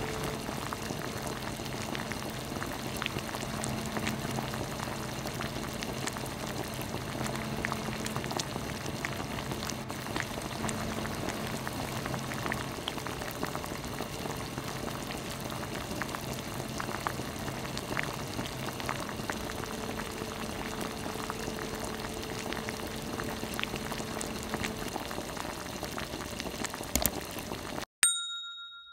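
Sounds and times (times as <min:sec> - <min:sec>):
stew bubbling and popping: 0:00.0 - 0:27.8.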